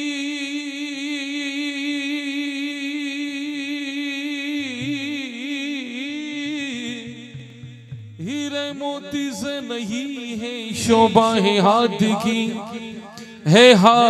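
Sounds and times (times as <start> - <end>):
man singing devotional song: 0.0 - 14.0.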